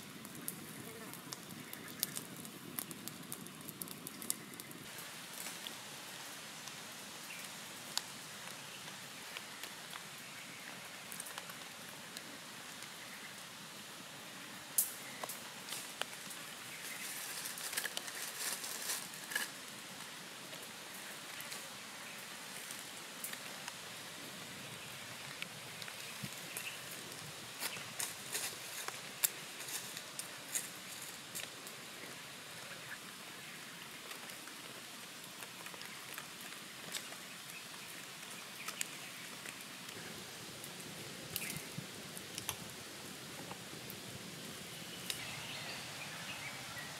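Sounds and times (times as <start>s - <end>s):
steady background hiss: 0.0s - 46.9s
wood fire crackling: 0.0s - 46.9s.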